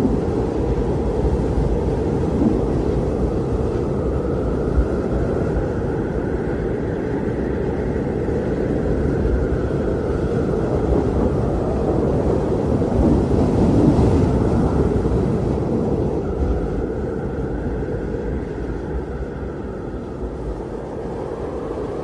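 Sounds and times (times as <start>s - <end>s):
blizzard wind rushing: 0.0s - 22.0s.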